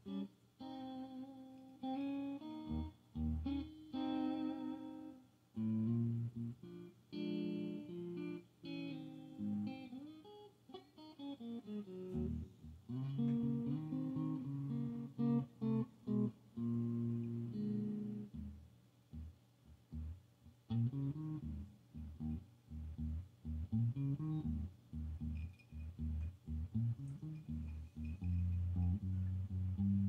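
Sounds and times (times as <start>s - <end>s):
electric guitar playing: 0.0s - 19.3s, 19.9s - 30.0s.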